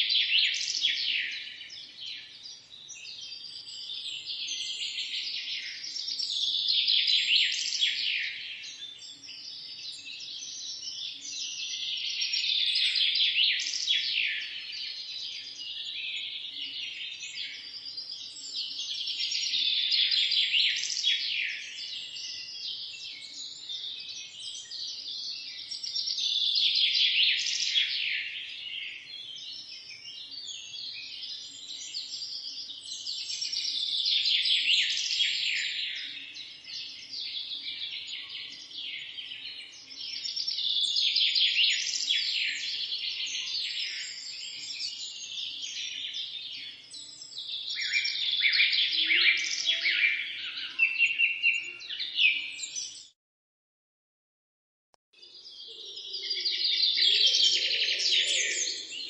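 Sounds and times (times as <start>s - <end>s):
birds chirping in a chorus: 0.0s - 53.2s, 55.2s - 59.0s.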